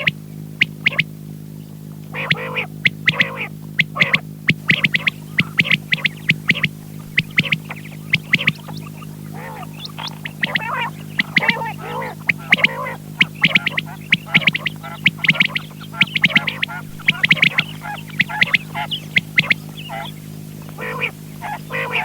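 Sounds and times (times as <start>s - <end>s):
electrical hum: 0.0s - 22.0s
quail calling: 0.0s - 22.0s.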